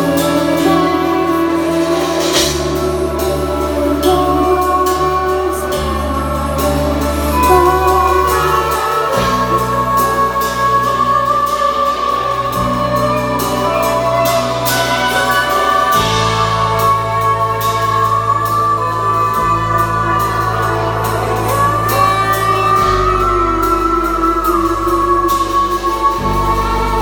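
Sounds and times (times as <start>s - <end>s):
bass line: 0.0s - 27.0s
live band music: 0.0s - 27.0s
woman singing long notes: 0.0s - 27.0s.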